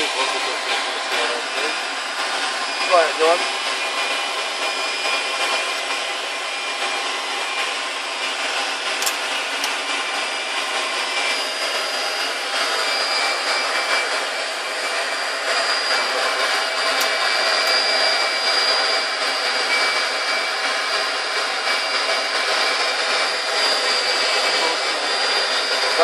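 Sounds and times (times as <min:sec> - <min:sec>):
jet engine idling: 0:00.0 - 0:26.0.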